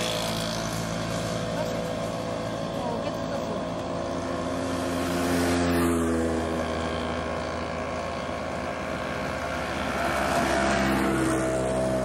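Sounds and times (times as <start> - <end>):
second engine: 0.0 - 12.0
vehicle engine running: 0.0 - 12.0.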